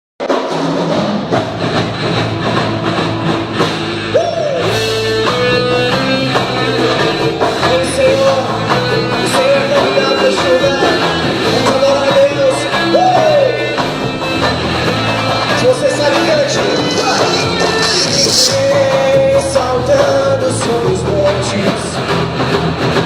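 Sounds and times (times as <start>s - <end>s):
rock band playing live: 0.2s - 23.0s.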